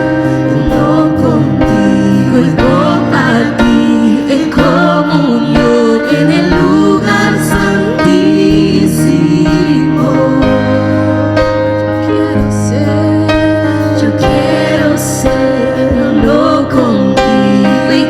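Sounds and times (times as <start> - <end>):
instrumental worship band music: 0.0 - 18.0.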